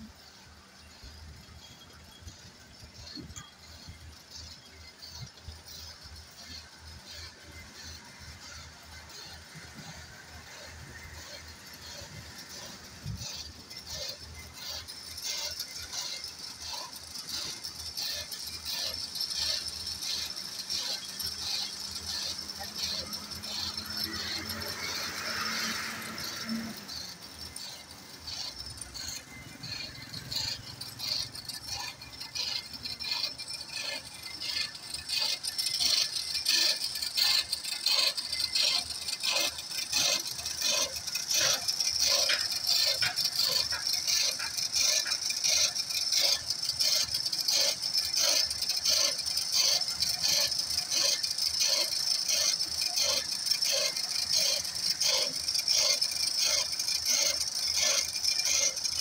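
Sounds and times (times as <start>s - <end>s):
hand tool scraping steel: 0.0s - 59.0s
motorcycle engine running: 4.5s - 59.0s.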